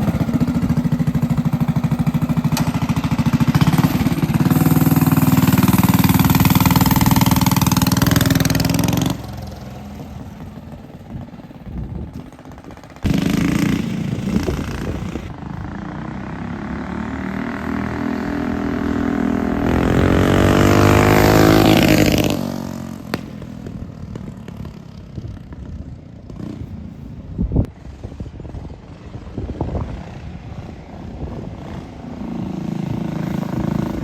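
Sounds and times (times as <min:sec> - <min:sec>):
minibike engine passing by: 0:00.0 - 0:34.0.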